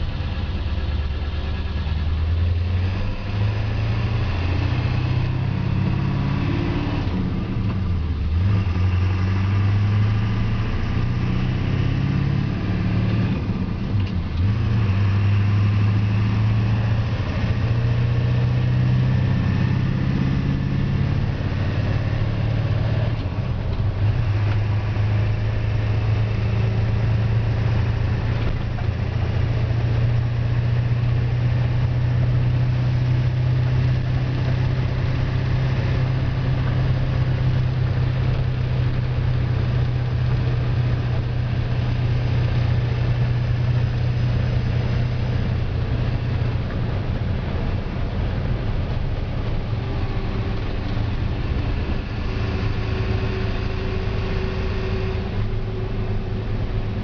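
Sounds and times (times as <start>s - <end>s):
road noise: 0.0s - 57.0s
truck diesel engine running: 0.0s - 57.0s.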